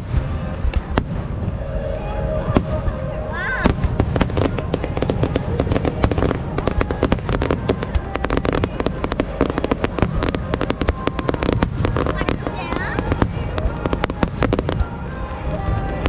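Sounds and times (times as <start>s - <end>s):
continuous low rumble: 0.0s - 16.0s
fireworks bangs and crackling: 0.0s - 16.0s.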